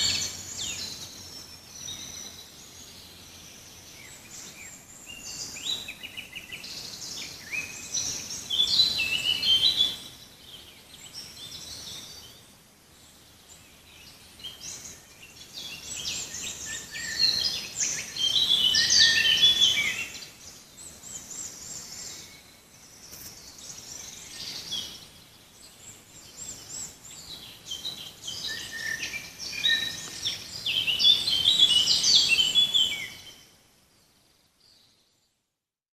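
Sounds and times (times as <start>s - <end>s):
songbirds chirping: 0.0s - 35.6s
faint background hiss: 0.0s - 35.7s.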